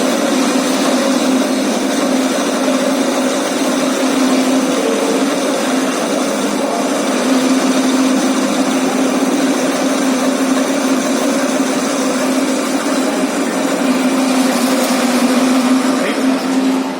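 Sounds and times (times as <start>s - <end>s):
lathe humming: 0.0s - 16.9s.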